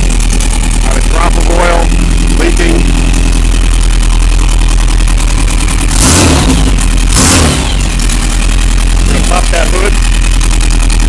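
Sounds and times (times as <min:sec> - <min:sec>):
car engine idling: 0:00.0 - 0:11.0
engine revving: 0:00.0 - 0:11.0.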